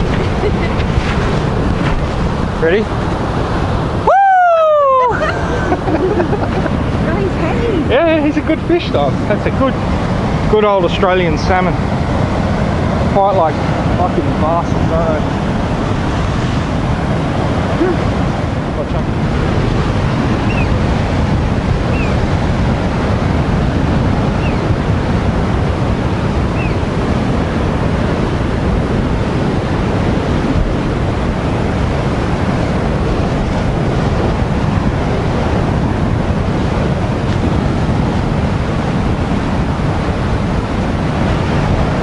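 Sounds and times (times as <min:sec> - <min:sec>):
ocean surf breaking on rocks: 0:00.0 - 0:42.0
wind buffeting microphone: 0:00.0 - 0:42.0.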